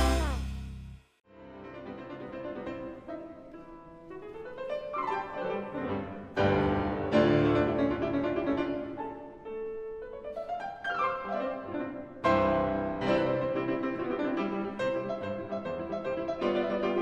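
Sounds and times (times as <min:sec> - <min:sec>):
instrumental piano music: 0:01.4 - 0:17.0.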